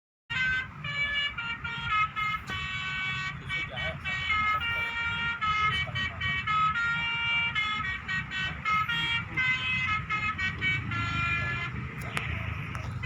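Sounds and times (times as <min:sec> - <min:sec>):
musical horn tune: 0:00.3 - 0:13.0.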